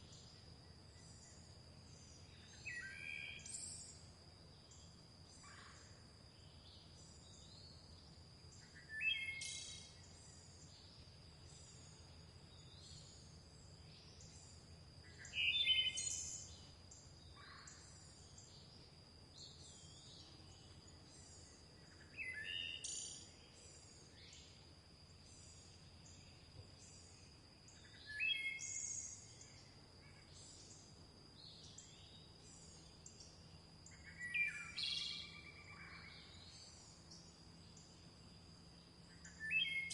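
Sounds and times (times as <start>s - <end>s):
faint rapid bird chirps: 0.0s - 39.9s.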